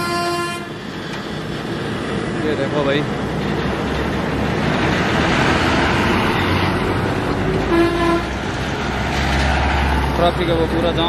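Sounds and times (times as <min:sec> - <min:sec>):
road and traffic noise: 0:00.0 - 0:11.0
truck diesel engines labouring: 0:00.0 - 0:11.0.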